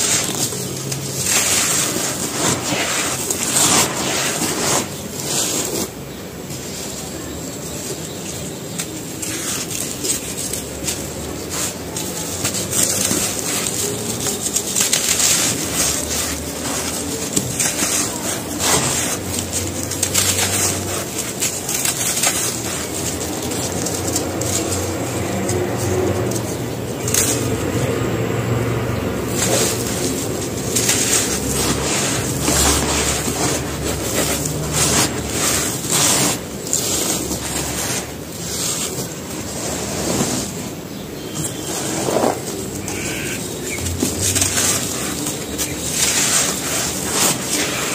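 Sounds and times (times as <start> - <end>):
cement chunks crushed by hand: 0.0 - 47.9.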